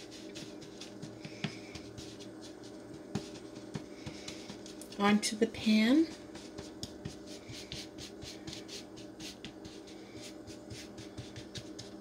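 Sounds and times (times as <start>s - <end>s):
wooden spoon scraping baking sheet: 0.0s - 12.0s.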